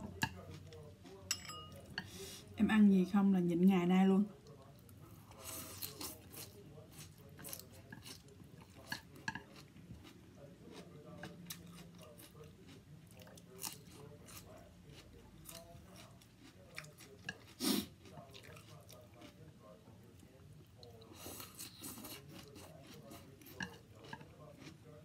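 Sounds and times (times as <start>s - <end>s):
faint chewing: 4.3s - 25.0s.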